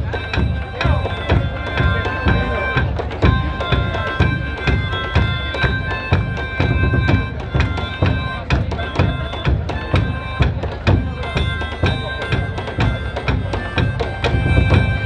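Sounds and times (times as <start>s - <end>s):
bagpipe: 0.0s - 15.0s
drums beating: 0.0s - 15.0s.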